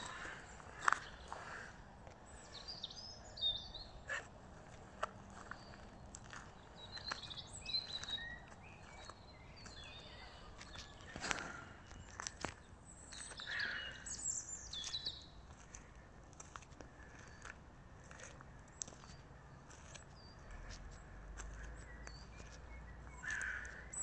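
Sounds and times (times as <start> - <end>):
footsteps on gravel: 0.0 - 2.7, 4.1 - 23.8
songbirds chirping: 0.0 - 24.0.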